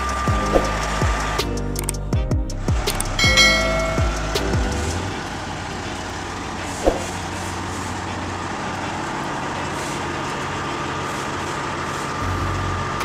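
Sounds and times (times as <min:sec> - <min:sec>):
diesel engine idling: 0:00.0 - 0:01.5, 0:02.5 - 0:13.0.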